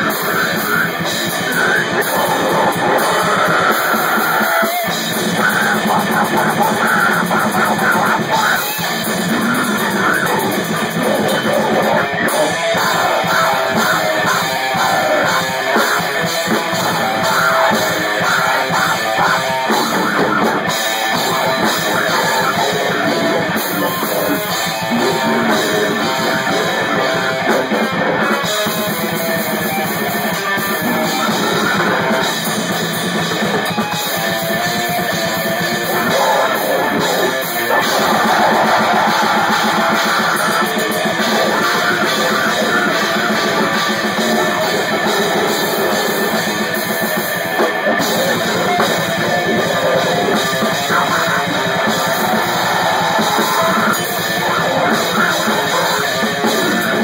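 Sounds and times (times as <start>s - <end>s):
drum kit with cymbals: 0.0s - 57.0s
guitar: 0.0s - 57.0s
live rock music: 0.0s - 57.0s.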